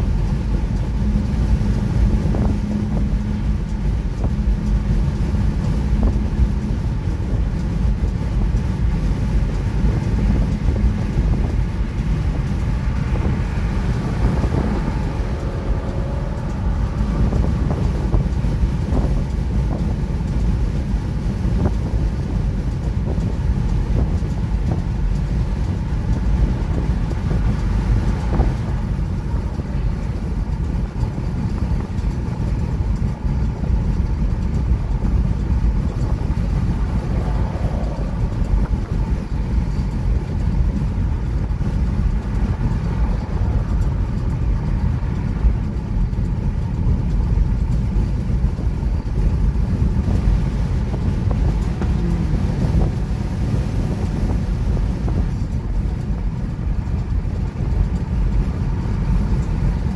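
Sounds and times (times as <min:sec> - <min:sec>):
road and tyre rumble in car: 0:00.0 - 0:59.9.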